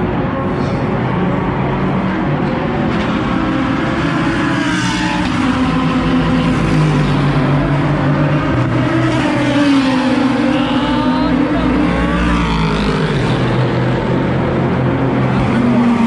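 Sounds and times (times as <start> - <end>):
race cars passing at speed: 0.0 - 16.0.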